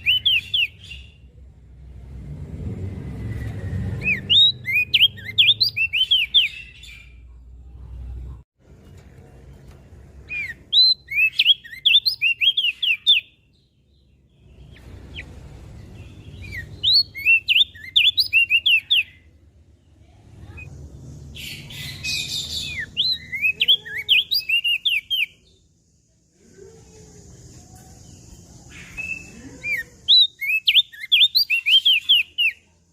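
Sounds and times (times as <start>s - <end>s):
songbird whistled song: 0.0s - 1.4s, 3.0s - 7.3s, 9.6s - 19.4s, 20.4s - 25.8s, 26.8s - 32.9s.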